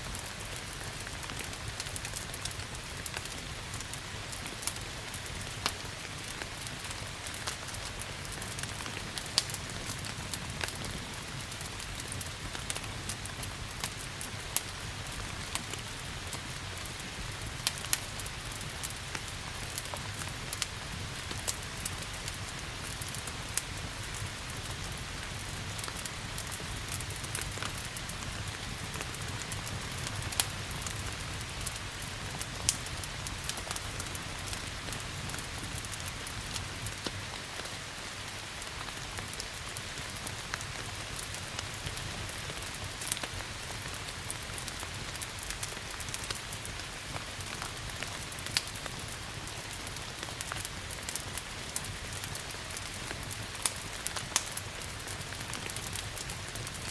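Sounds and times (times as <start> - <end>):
steady rain hiss: 0.0 - 56.9
wood fire crackling: 0.0 - 56.9.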